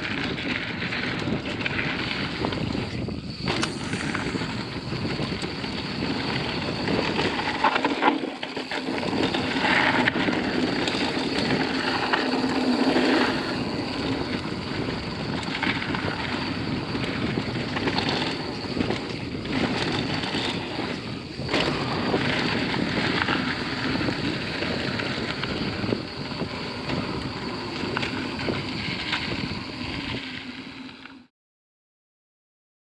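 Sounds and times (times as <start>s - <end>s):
wind on microphone: 0.0s - 31.0s
bike tyres on gravel: 0.0s - 31.3s.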